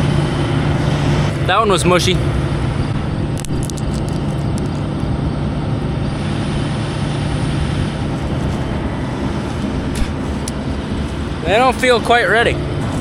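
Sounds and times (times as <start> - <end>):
farm machine engine droning: 0.0 - 13.0.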